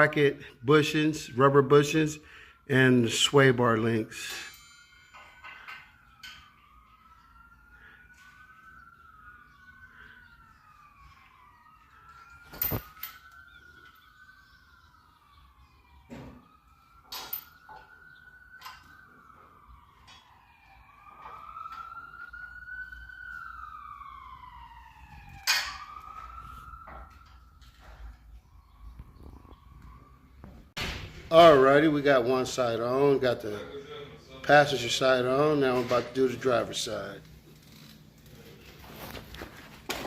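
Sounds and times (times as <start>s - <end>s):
siren wailing: 0.0s - 40.0s.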